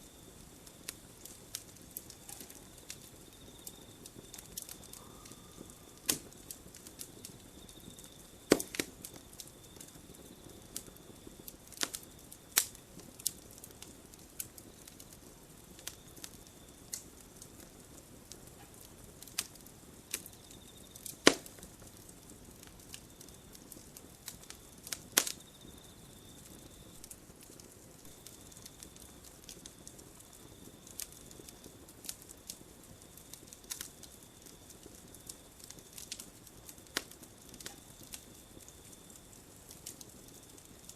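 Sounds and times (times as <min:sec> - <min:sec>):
campfire wood crackling and popping: 0:00.0 - 0:40.9.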